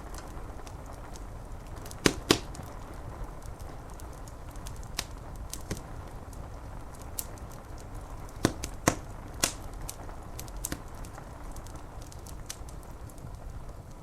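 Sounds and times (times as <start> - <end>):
rain on window glass: 0.0 - 14.0
wood fire crackling: 0.0 - 14.0.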